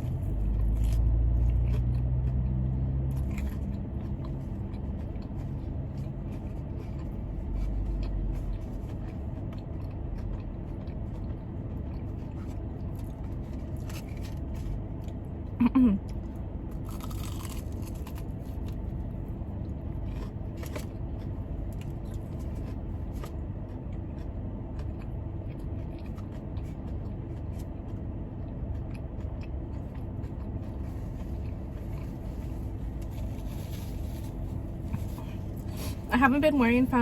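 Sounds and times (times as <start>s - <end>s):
person chewing food: 0.0s - 36.0s
car air conditioning hum: 0.0s - 37.0s.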